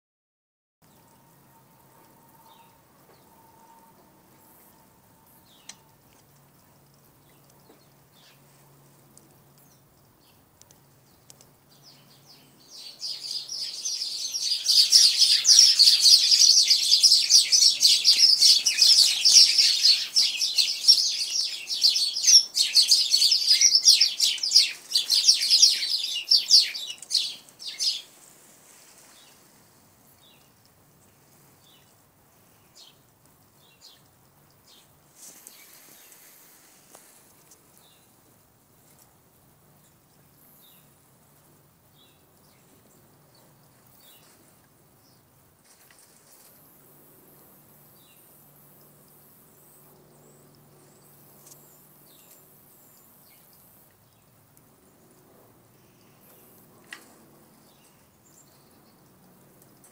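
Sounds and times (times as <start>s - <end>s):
faint hum: 0.8s - 59.9s
small birds chirping: 0.9s - 46.3s, 47.1s - 59.9s.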